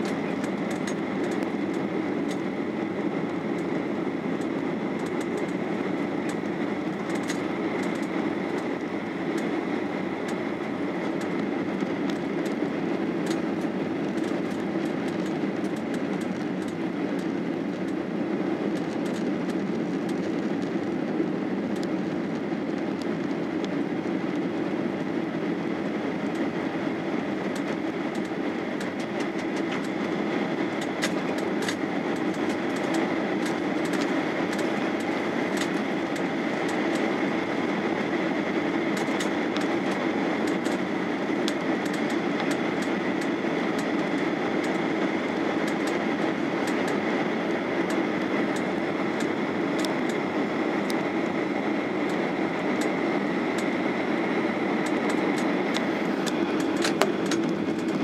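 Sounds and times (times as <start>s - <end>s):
airplane cabin engine noise: 0.0s - 58.0s
faint steady whine: 0.0s - 58.0s.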